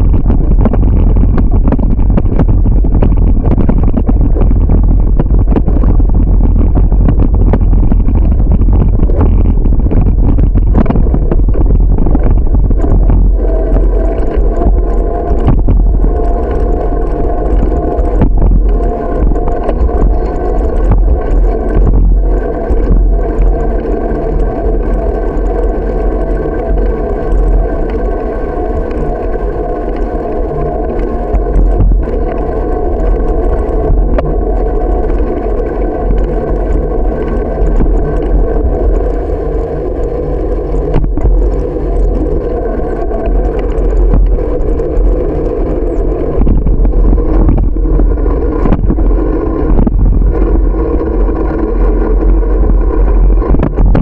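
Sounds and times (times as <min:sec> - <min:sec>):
bicycle road rumble: 0:00.0 - 0:54.0
constant drone: 0:00.0 - 0:54.0.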